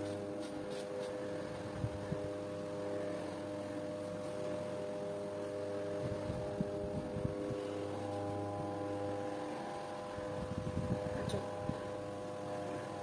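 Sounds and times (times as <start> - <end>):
steady tonal hum over drone: 0.0 - 13.0.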